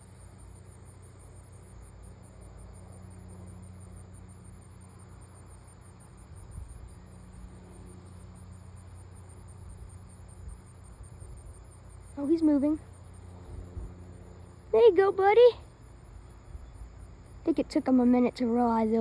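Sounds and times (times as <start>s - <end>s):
insects chirping: 0.0s - 19.0s
low steady hum: 0.0s - 19.0s.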